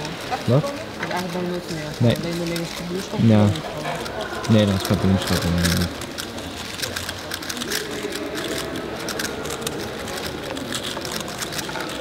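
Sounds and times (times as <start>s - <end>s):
faint background chatter: 0.0s - 12.0s
puzzle cube clicking and rattling: 0.0s - 12.0s.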